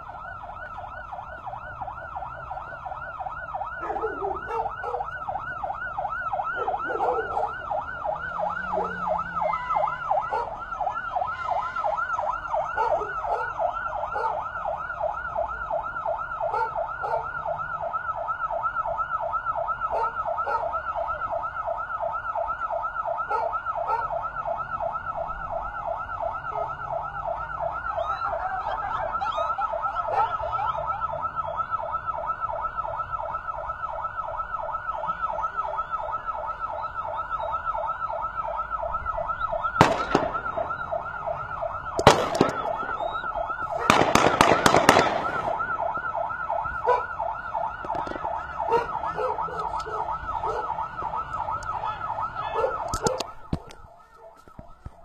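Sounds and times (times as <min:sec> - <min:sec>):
electronic siren warbling: 0:00.0 - 0:54.4.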